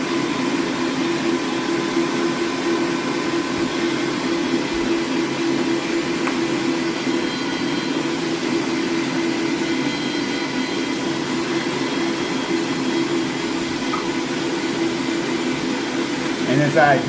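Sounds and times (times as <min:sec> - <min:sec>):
electric meat grinder humming: 0:00.0 - 0:17.0.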